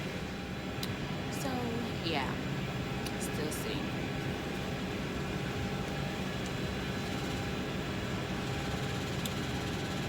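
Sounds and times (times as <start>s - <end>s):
air-conditioning and machinery hum: 0.0s - 10.0s.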